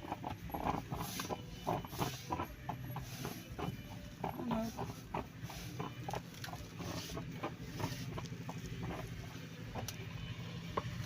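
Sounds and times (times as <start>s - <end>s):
garment steamer hum: 0.0s - 11.0s.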